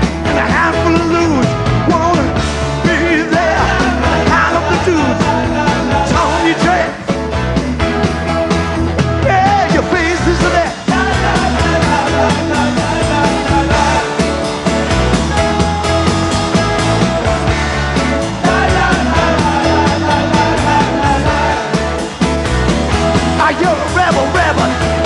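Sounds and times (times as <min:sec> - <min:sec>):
live rock band playing: 0:00.0 - 0:25.0
voices singing: 0:00.3 - 0:07.2, 0:09.2 - 0:25.0.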